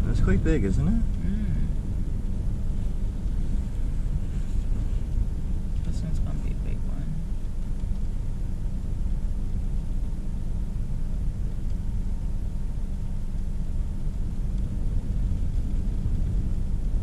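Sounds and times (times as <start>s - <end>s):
heavy surf rumble: 0.0s - 17.0s
storm wind: 0.0s - 17.0s.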